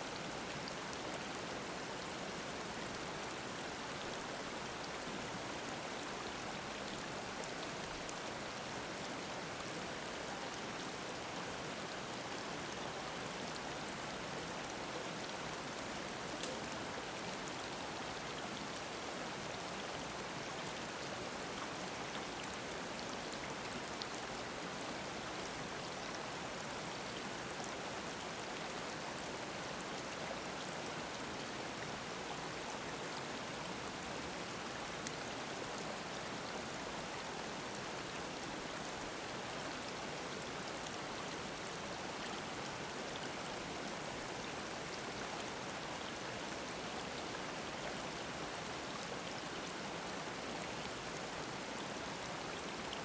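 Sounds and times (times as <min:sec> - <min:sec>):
stream babbling over rocks: 0:00.1 - 0:53.0.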